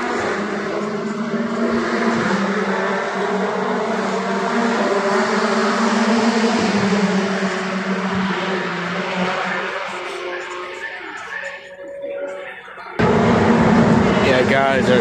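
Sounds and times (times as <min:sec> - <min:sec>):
racing car engines droning: 0:00.0 - 0:15.0.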